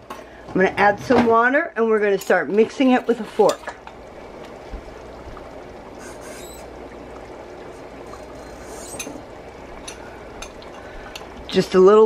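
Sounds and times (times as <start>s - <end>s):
gravy simmering and bubbling: 1.8s - 12.0s.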